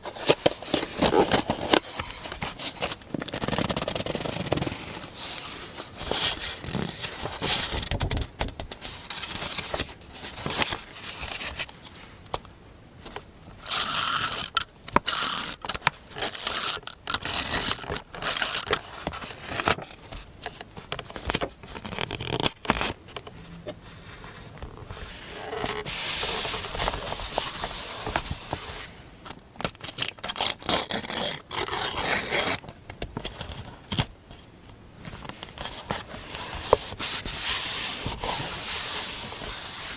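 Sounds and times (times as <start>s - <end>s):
paper scraping and rustling: 0.0s - 12.0s, 13.7s - 29.0s, 29.8s - 34.0s, 35.0s - 39.9s.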